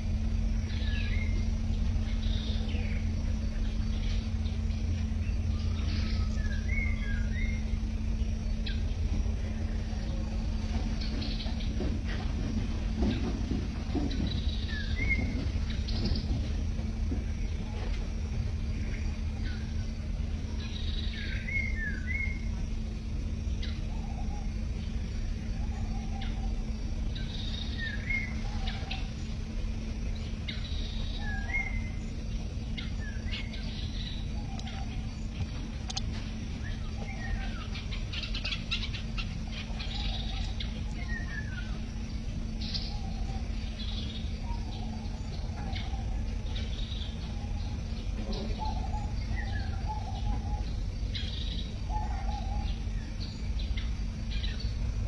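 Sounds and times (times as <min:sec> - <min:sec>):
birds chirping: 0:00.0 - 0:55.0
low rumble and hum: 0:00.0 - 0:55.0.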